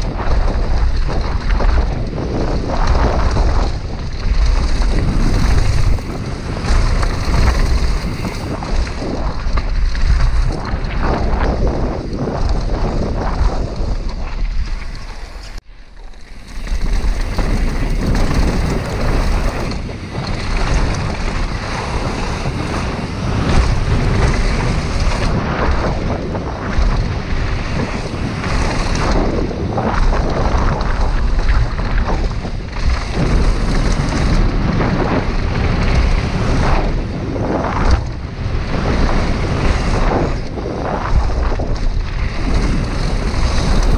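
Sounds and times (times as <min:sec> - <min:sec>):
bike rattling over bumps: 0:00.0 - 0:43.9
tyre rumble: 0:00.0 - 0:43.9
wind buffeting microphone: 0:00.0 - 0:43.9.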